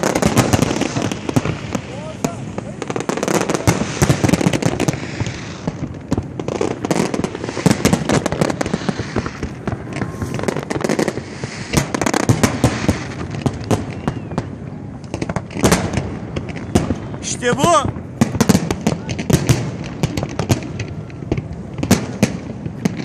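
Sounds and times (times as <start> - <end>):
fireworks crackling: 0.0 - 23.0
fireworks cracks and bangs: 0.0 - 23.0.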